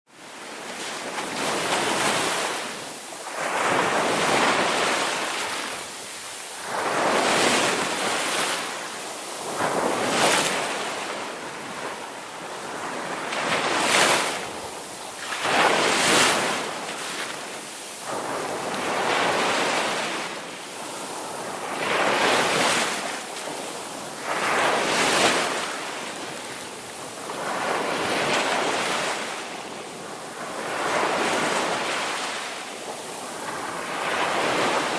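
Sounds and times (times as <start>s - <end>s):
ocean waves breaking: 0.3s - 34.9s.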